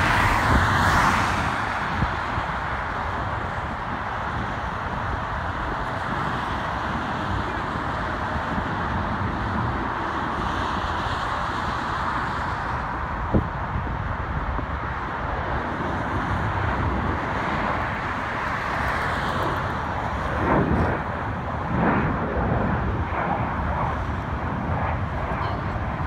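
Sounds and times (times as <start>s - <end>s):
jet engines roaring: 0.0s - 26.0s
road traffic noise: 0.0s - 26.0s.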